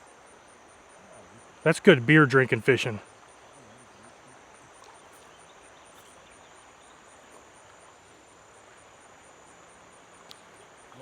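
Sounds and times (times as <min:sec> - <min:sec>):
insect chirping: 0:00.0 - 0:11.0
soft steady hiss: 0:00.0 - 0:11.0.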